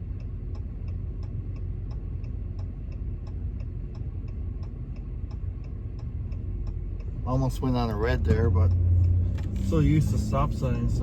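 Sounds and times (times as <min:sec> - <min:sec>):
turn signal ticking: 0:00.0 - 0:11.0.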